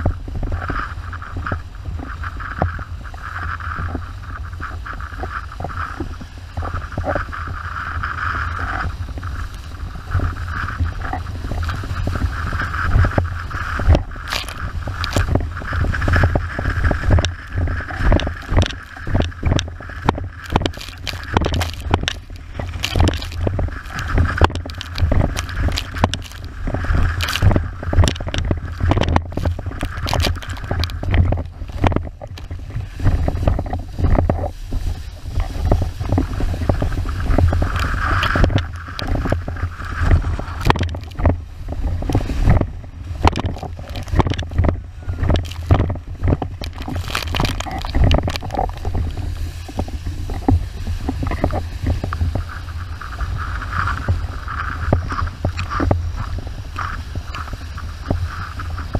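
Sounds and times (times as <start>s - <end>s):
water rushing and spraying: 0.0s - 58.9s
wind buffeting microphone: 0.0s - 58.9s
board slapping against water: 8.8s - 58.9s.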